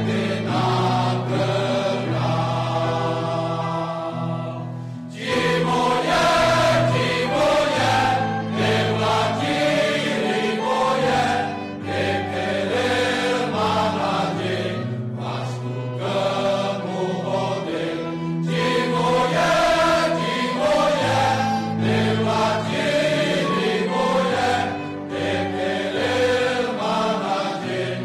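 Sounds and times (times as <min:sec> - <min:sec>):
men's choir singing a hymn: 0:00.0 - 0:28.0
string accompaniment: 0:00.0 - 0:28.0.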